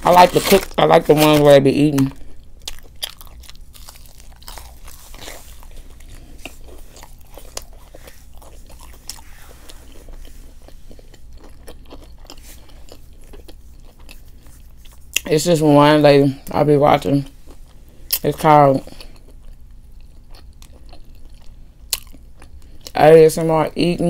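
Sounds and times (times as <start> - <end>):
person chewing and crunching food: 0.0 - 23.1.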